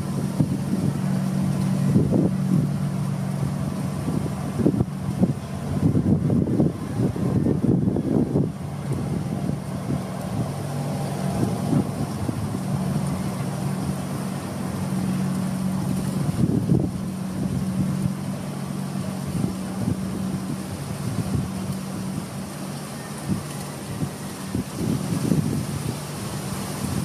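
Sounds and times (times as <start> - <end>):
motorboat engine droning: 0.0 - 27.0
wind buffeting microphone: 0.0 - 27.0.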